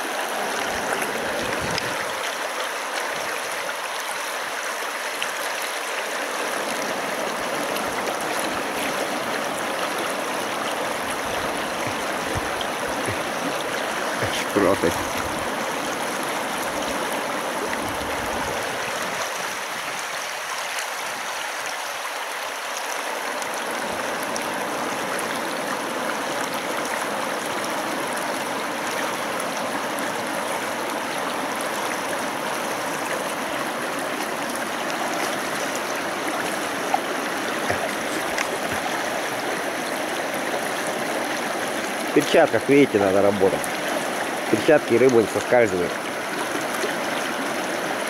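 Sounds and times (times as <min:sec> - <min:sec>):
fast river water rushing: 0:00.0 - 0:48.0.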